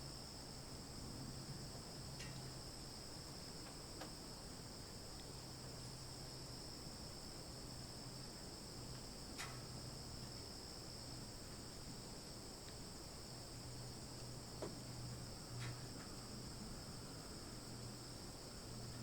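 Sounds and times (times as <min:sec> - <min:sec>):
faint low hum: 0:00.0 - 0:19.0
insects chorusing: 0:00.0 - 0:19.0.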